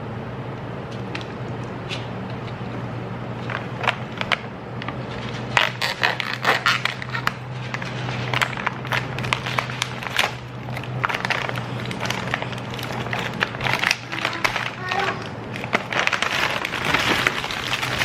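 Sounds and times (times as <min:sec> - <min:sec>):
steady low hum: 0:00.0 - 0:18.0
plastic packaging crinkling: 0:03.3 - 0:18.0.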